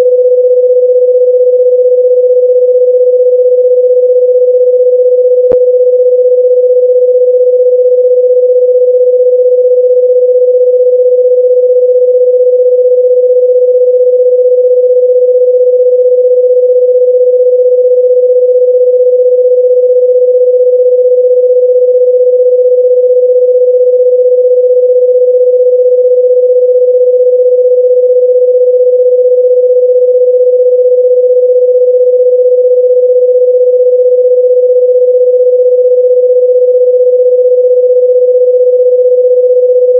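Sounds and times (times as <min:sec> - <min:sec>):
steady electronic pure tone: 0:00.0 - 0:39.9.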